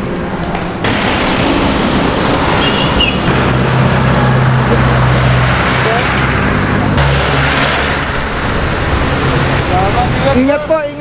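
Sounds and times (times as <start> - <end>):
street traffic: 0.0 - 11.0
vehicle engine droning: 0.1 - 11.0.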